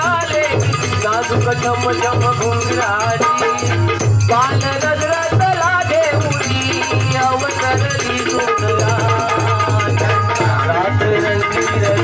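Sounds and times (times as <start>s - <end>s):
dholki drum beat: 0.0s - 12.0s.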